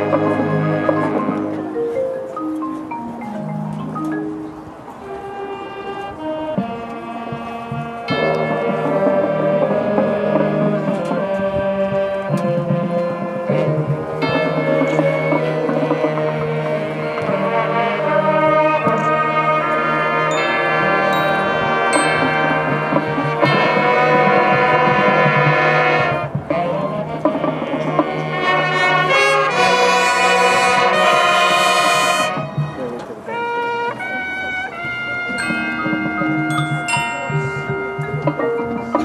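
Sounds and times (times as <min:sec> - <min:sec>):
marching band brass chords: 0:00.0 - 0:39.0.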